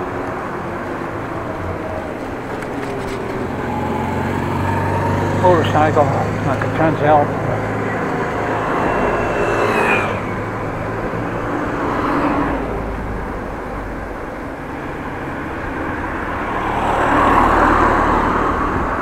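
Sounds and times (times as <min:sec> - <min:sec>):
motorcycle passing: 0:00.0 - 0:19.0
wind and road noise: 0:00.0 - 0:19.0.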